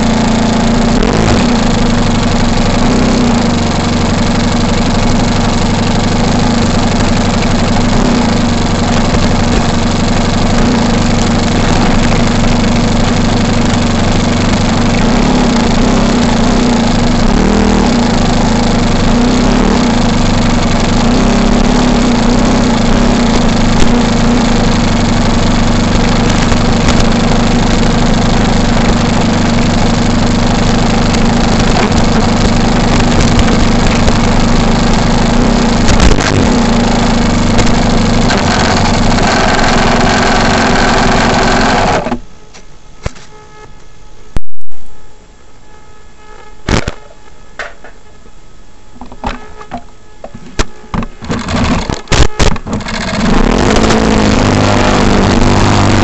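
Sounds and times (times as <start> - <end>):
model plane engine running: 0.0 - 42.2, 52.6 - 56.0.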